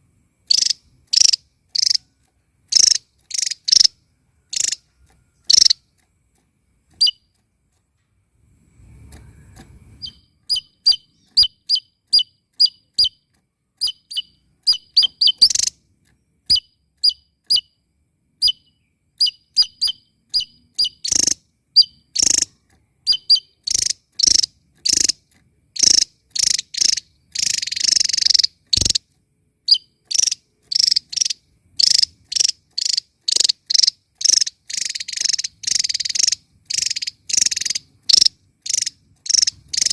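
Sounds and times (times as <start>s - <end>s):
songbird chirping: 0.3s - 39.9s.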